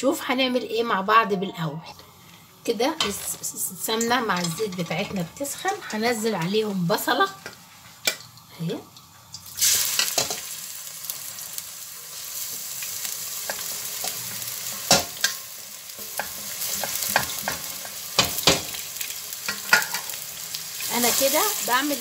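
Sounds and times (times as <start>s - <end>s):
onion sizzling in hot oil: 2.0s - 22.0s.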